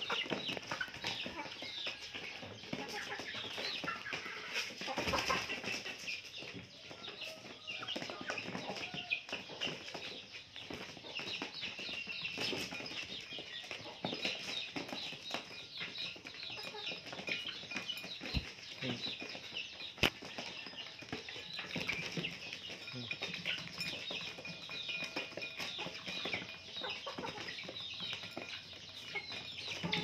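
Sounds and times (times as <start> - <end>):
chicks clucking and peeping: 0.0 - 30.0.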